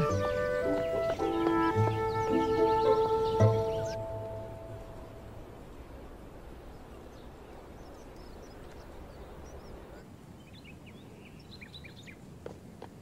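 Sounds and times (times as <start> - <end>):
small birds chirping: 0.0 - 13.0
steady low hiss: 0.0 - 13.0.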